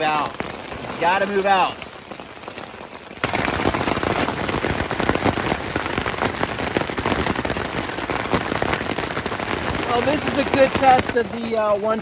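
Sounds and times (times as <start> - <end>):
hail and rain on tent fabric: 0.0 - 12.0.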